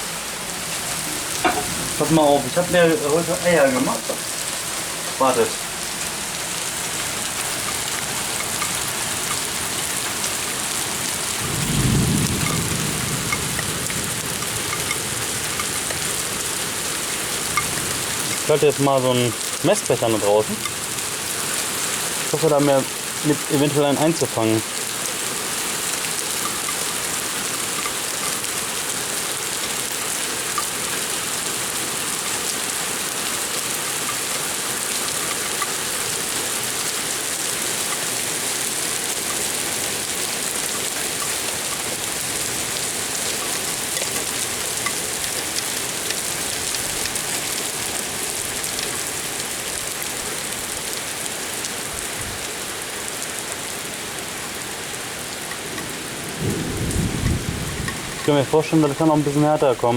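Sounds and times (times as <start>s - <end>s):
heavy rain and hail: 0.0s - 59.9s.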